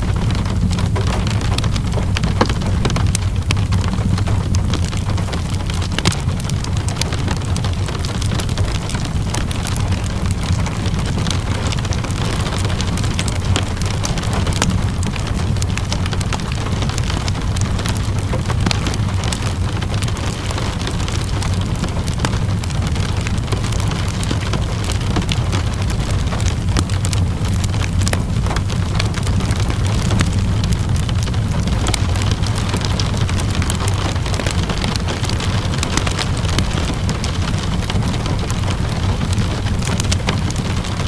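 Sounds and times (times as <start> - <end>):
steady rainfall: 0.0 - 41.0
wood fire crackling: 0.0 - 41.0.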